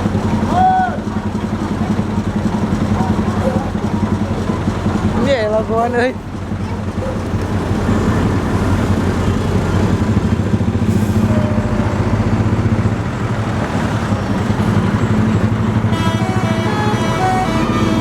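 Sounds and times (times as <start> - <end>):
diesel bus engine rumbling: 0.0 - 18.0.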